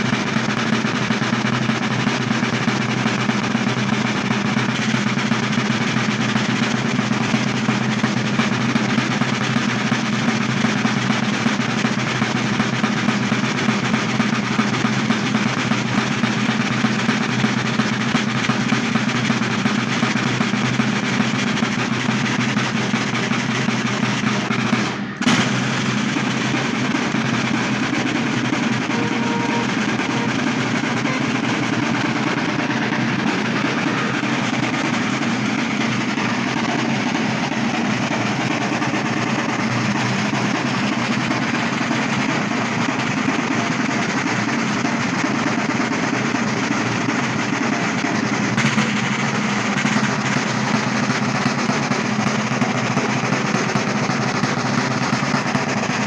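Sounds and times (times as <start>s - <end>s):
large drums rolling rhythm: 0.0s - 56.0s.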